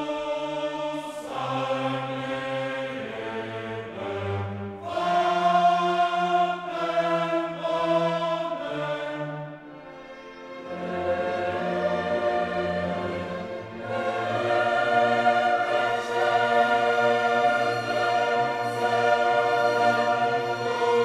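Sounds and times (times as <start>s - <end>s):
choral music with orchestra: 0.0s - 21.0s.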